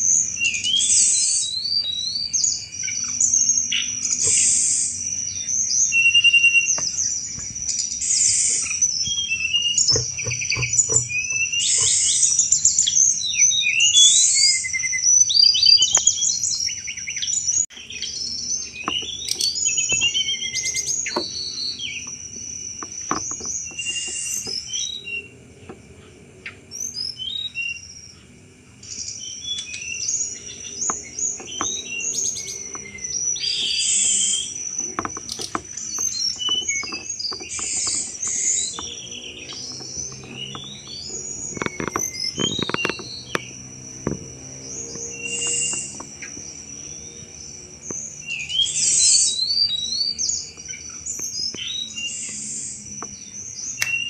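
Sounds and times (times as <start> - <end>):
bird singing chattering notes: 0.0 - 54.0
high insect drone: 0.0 - 54.0.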